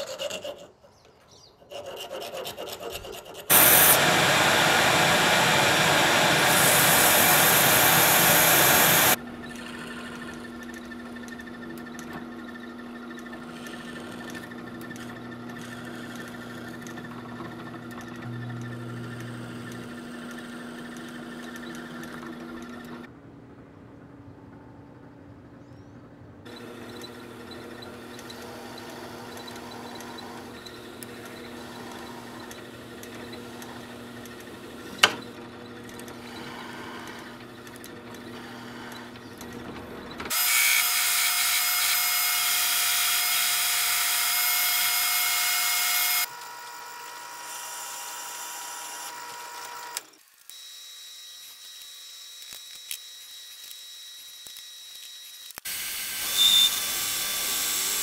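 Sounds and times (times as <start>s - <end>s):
belt grinder grinding: 1.7s - 23.0s, 26.5s - 58.0s
drill press drilling: 3.5s - 23.1s, 26.5s - 58.0s.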